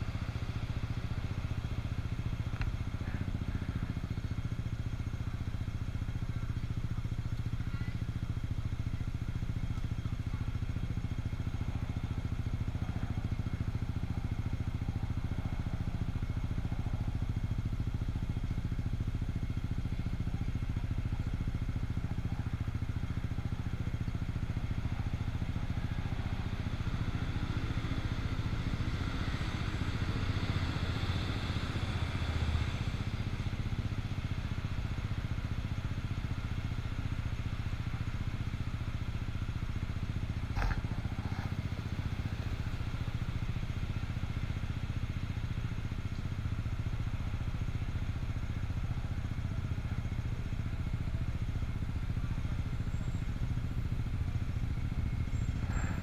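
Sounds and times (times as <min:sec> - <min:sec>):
passing traffic: 0:00.0 - 0:56.0
scooter engine idling: 0:00.0 - 0:56.0.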